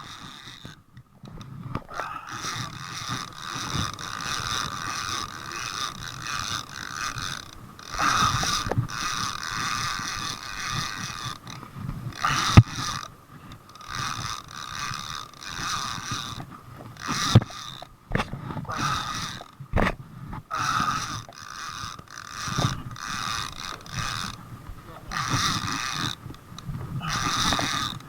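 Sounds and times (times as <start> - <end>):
fishing reel ratchet whirring: 0.0 - 28.0.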